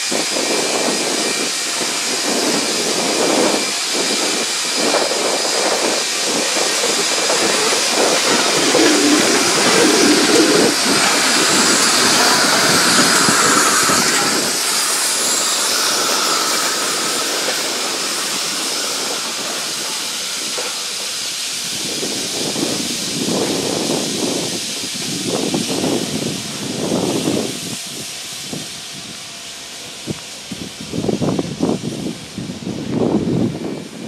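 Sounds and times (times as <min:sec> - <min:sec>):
hiss of escaping steam: 0:00.0 - 0:34.0
train running on rails: 0:00.0 - 0:34.0.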